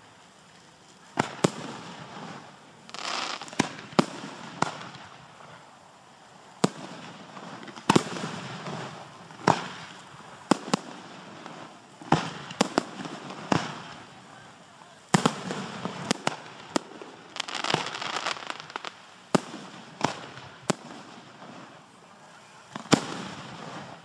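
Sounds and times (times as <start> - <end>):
fireworks bangs: 1.1 - 5.7, 6.5 - 24.0.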